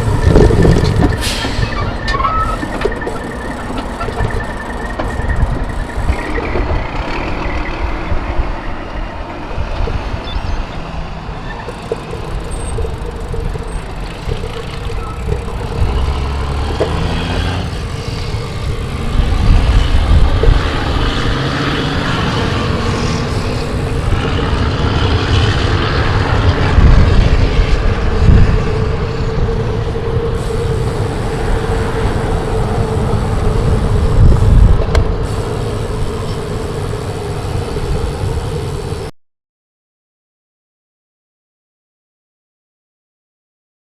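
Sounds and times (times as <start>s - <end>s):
road traffic passing: 0.0s - 39.1s
wind rumbling on microphone: 0.0s - 39.1s.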